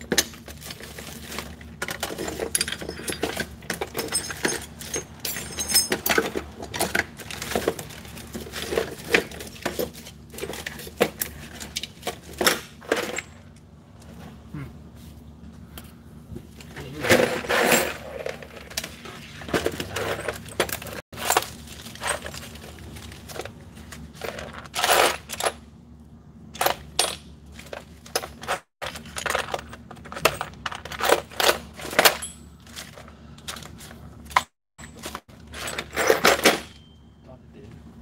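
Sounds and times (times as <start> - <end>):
nuts and bolts clinking in tray: 0.0 - 13.7, 17.0 - 25.6, 26.6 - 37.1.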